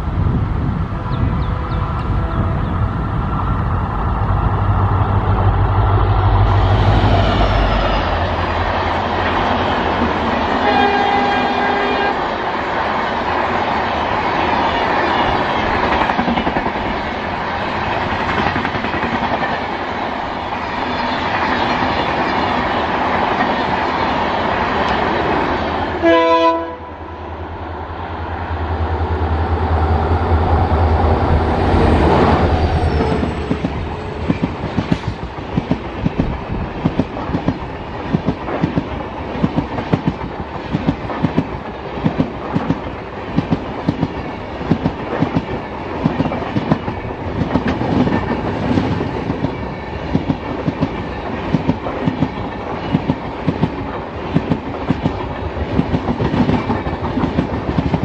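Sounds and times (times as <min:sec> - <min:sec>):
train passing rumble: 0:00.0 - 0:58.0.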